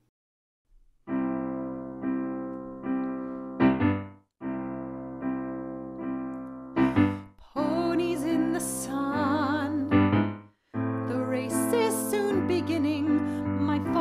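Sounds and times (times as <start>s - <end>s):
keyboard chords: 1.0s - 14.0s.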